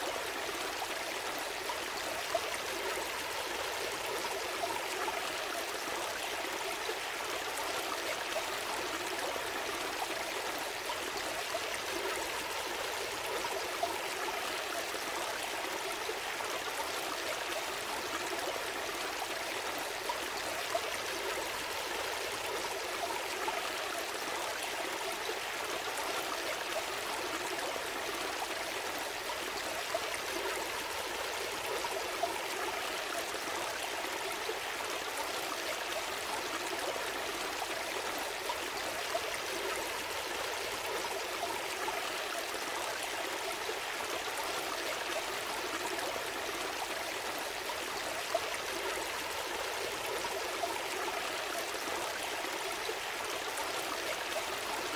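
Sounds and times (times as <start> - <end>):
stream water trickling and gurgling: 0.0 - 54.9.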